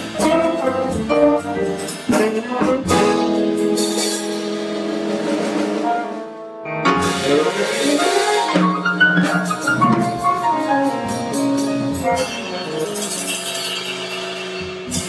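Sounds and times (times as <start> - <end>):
drum and cymbal strokes: 0.0 - 6.2, 6.9 - 15.0
bass trumpet: 0.0 - 15.0
double bass: 0.0 - 15.0
piano: 0.0 - 15.0
tenor sax: 0.0 - 15.0.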